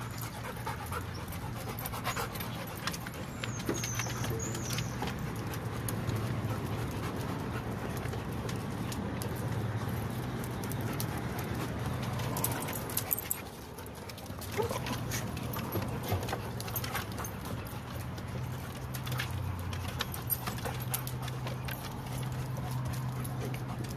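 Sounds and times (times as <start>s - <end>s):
dog claws tapping on wood: 0.2s - 23.9s.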